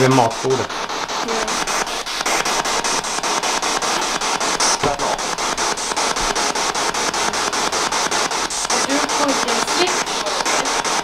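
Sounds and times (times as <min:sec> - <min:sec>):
fast even clicks: 0:00.0 - 0:11.0
radio static hiss: 0:00.0 - 0:11.0
snatch of broadcast sound: 0:00.0 - 0:11.0.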